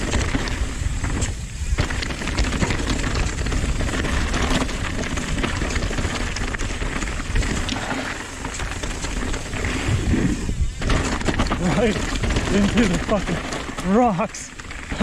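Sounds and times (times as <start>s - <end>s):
bike rattling over bumps: 0.0s - 15.0s
tyres crunching over gravel: 0.0s - 15.0s.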